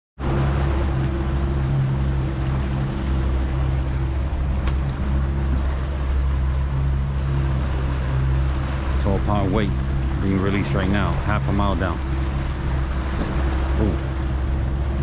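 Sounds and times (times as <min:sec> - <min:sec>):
outboard motor running: 0:00.2 - 0:15.0
wake water rushing along hull: 0:00.2 - 0:15.0.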